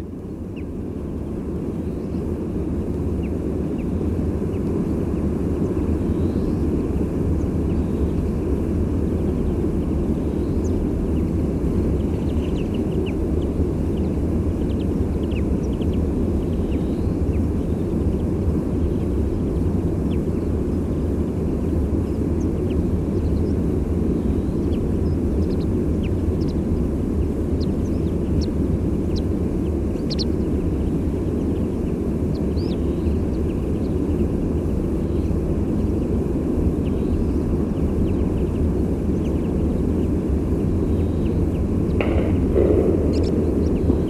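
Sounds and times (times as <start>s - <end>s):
distant sea surf roar: 0.0s - 44.0s
songbird flight calls: 0.0s - 44.0s.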